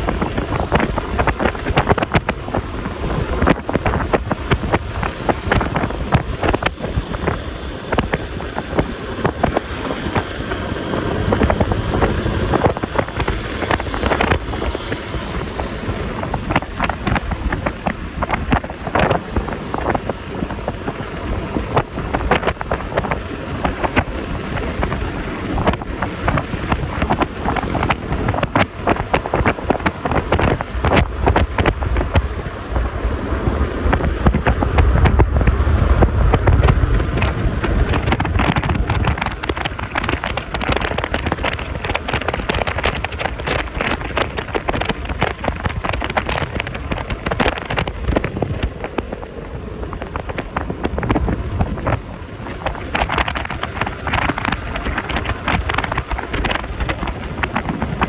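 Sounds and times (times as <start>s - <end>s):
road noise: 0.0s - 58.0s
wind buffeting microphone: 0.0s - 58.0s.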